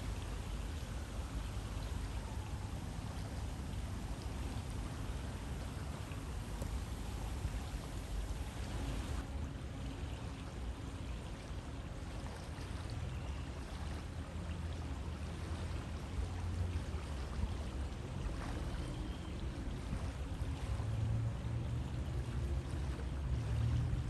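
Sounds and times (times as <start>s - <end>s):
river rushing water: 0.0s - 18.8s, 19.4s - 24.0s.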